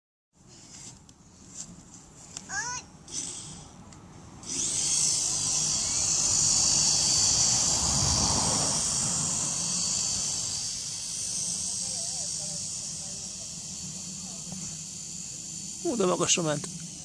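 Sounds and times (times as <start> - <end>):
toy helicopter motor whining: 2.5 - 3.8, 4.4 - 17.0.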